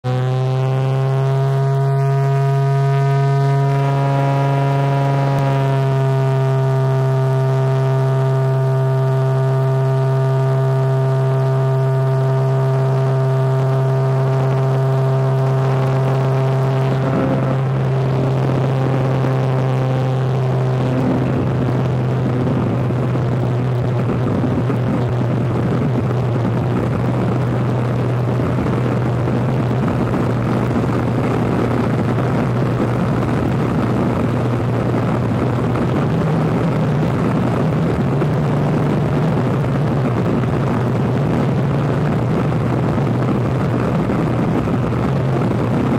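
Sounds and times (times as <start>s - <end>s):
propeller engine droning: 0.0s - 45.9s.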